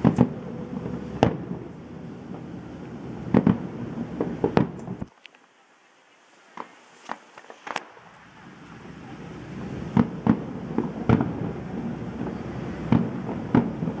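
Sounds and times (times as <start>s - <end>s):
firework shells bursting: 0.0s - 5.4s, 6.6s - 8.3s, 9.9s - 14.0s.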